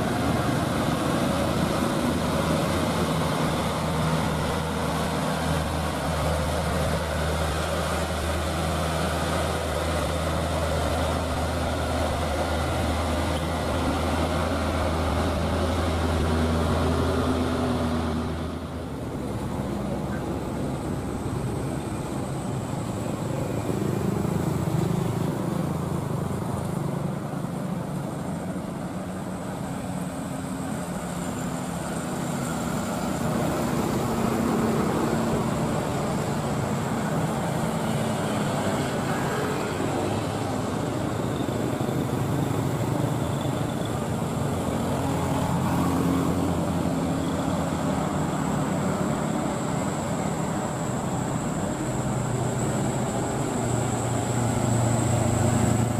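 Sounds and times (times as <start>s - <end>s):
diesel truck engine droning: 0.0s - 55.9s
passing traffic: 0.0s - 55.9s
truck engine: 0.0s - 55.9s.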